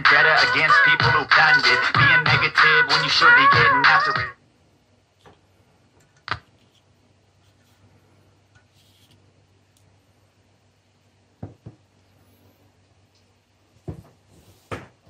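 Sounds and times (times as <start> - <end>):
faint low hum: 2.2 - 15.0.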